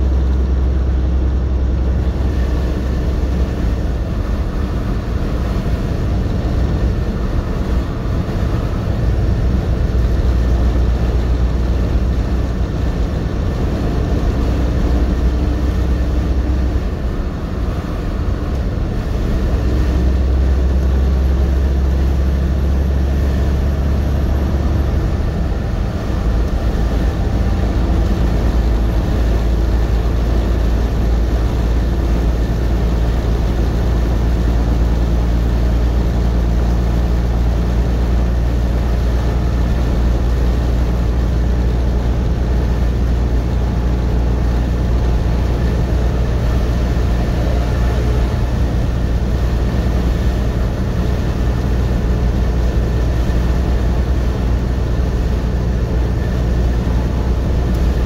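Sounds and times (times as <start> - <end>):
road noise inside cab: 0.0 - 58.0
truck diesel engine drone: 0.0 - 58.0.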